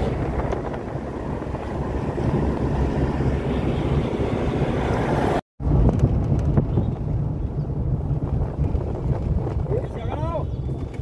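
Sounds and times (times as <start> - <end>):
engine and road rumble: 0.0 - 11.0
wind noise: 0.0 - 11.0.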